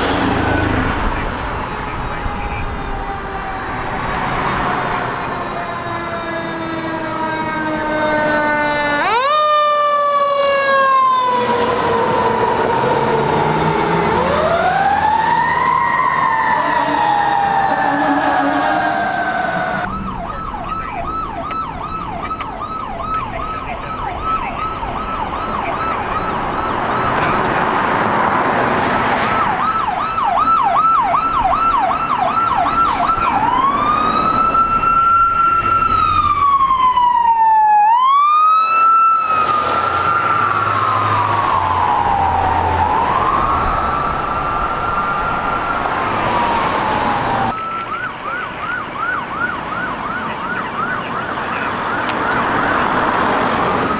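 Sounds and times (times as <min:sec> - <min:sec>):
emergency vehicle sirens: 0:00.0 - 0:53.9
passing traffic: 0:00.0 - 0:53.9.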